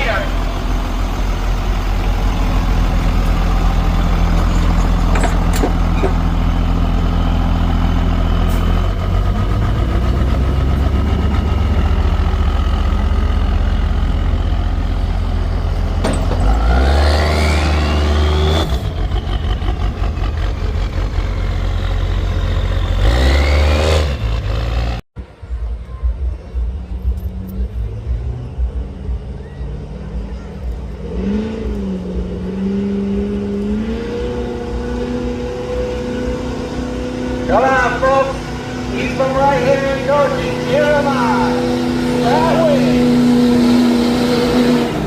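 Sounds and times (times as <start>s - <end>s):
truck engine revving: 0.0s - 25.0s, 27.3s - 45.0s.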